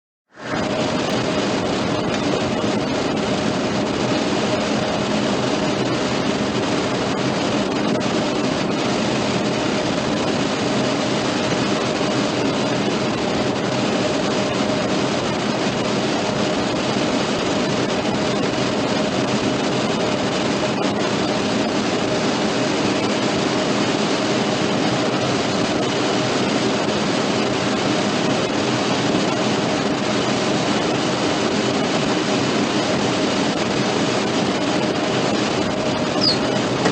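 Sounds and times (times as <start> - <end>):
steady electrical buzz: 0.3 - 36.9.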